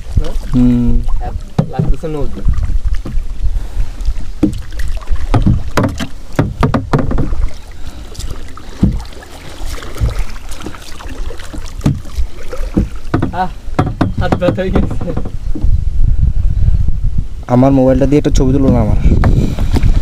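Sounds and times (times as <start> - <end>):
paddle knocking on boat: 0.0 - 3.4, 4.3 - 15.8, 18.6 - 20.0
paddle splashing in water: 0.0 - 15.7, 19.2 - 20.0.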